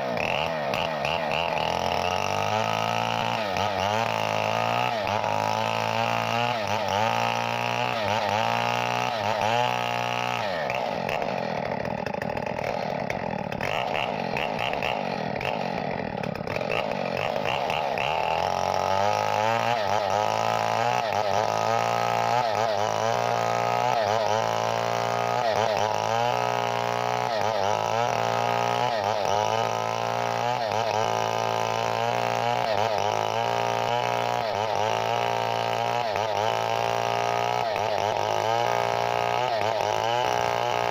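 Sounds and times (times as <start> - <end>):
chainsaw engine running: 0.0 - 40.9.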